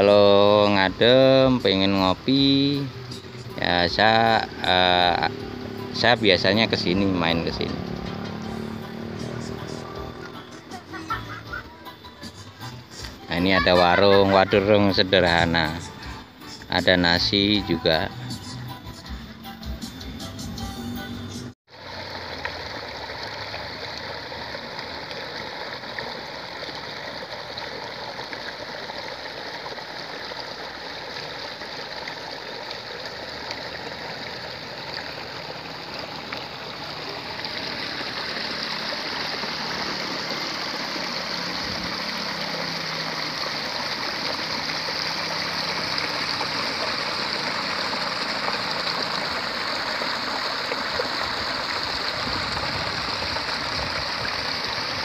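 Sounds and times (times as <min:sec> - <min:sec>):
shallow water babbling: 0:00.0 - 0:19.4, 0:21.7 - 0:55.0.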